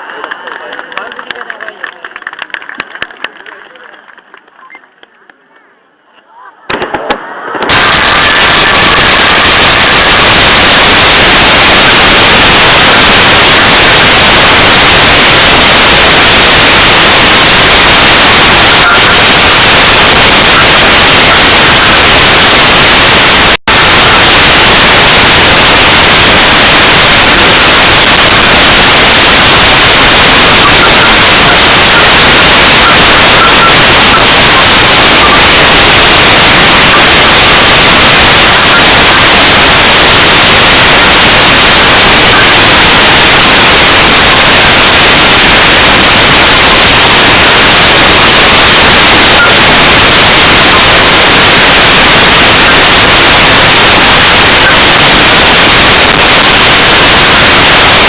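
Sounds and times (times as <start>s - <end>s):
static-like hiss: 0.0s - 58.0s.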